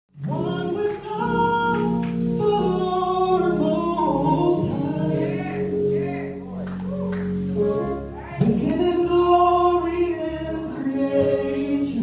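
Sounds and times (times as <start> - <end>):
gospel singing: 0.1 - 12.0
musical accompaniment chords: 0.1 - 12.0.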